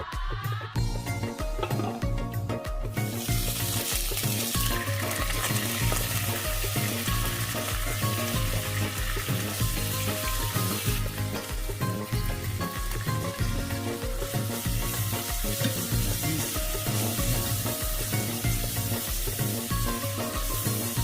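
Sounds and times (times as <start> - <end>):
background music with bass line: 0.0 - 21.0
food sizzling in a pan: 2.9 - 21.0.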